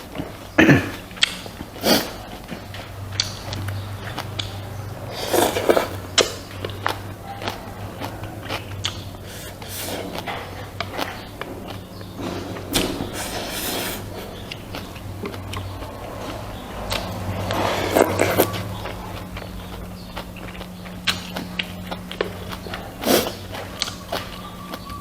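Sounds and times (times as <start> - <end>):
person chewing food: 0.0 - 25.0
steady low hum: 0.0 - 25.0.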